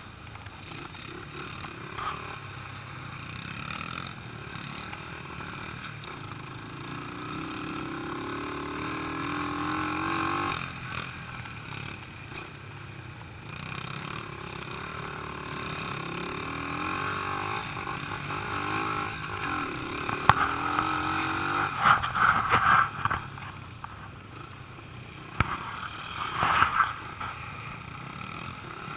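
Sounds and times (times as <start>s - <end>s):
pit bike engine revving: 0.6s - 12.6s, 13.4s - 28.9s.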